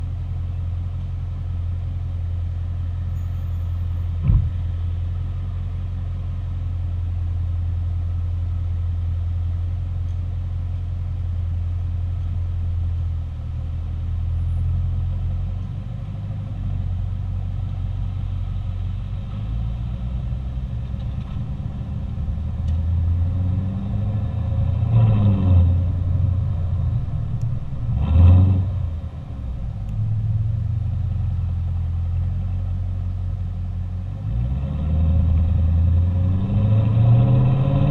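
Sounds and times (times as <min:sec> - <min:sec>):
car engine idling: 0:00.0 - 0:23.5, 0:25.7 - 0:34.2.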